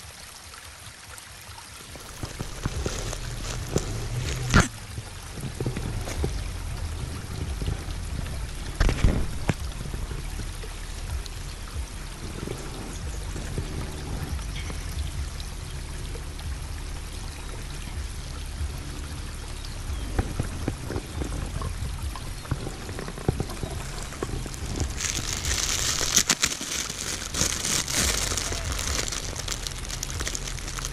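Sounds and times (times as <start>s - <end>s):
creek water running: 0.0s - 30.9s.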